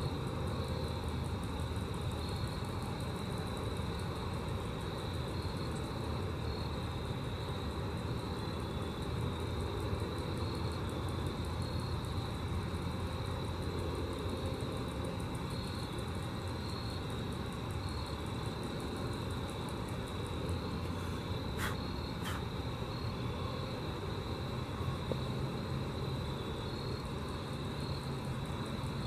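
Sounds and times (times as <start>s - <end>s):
grasshoppers stridulating: 0.0s - 29.0s.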